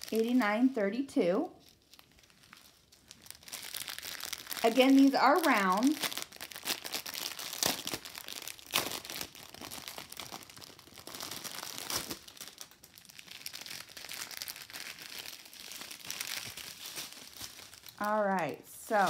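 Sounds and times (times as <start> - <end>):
plastic packaging crinkling: 0.0 - 0.8, 1.5 - 19.0.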